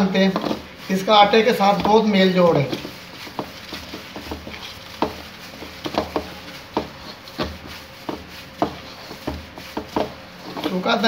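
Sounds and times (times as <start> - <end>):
hand kneading meat mixture: 0.0 - 11.0.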